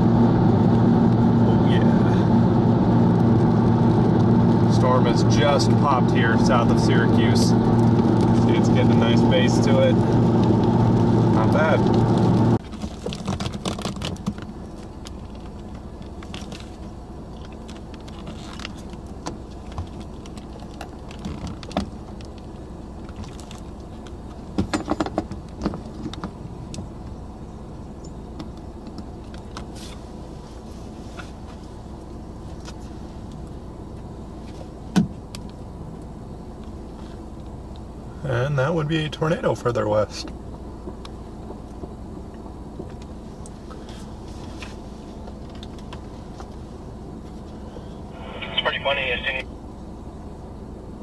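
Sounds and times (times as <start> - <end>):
vehicle running rumble: 0.0 - 51.0.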